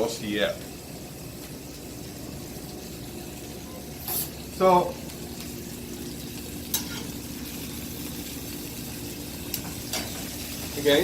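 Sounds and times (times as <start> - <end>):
steak sizzling in a skillet: 0.0 - 11.0.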